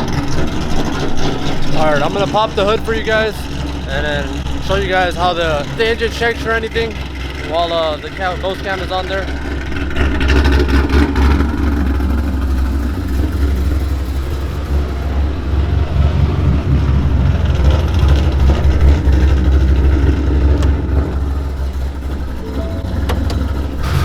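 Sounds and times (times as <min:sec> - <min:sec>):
car engine idling roughly: 0:00.0 - 0:24.0.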